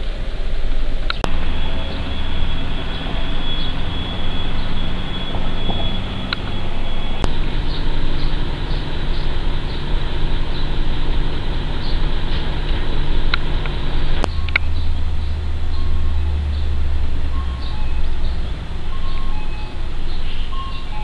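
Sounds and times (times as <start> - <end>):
mechanical hum: 0.0 - 21.0
deeper louder hum: 0.2 - 21.0.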